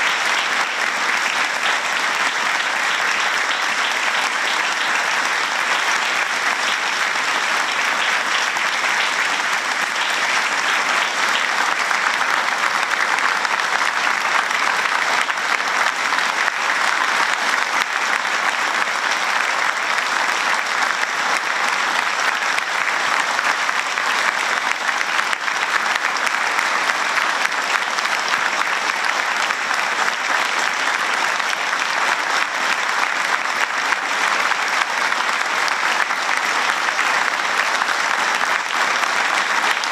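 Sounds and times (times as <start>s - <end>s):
audience applause: 0.0s - 39.9s.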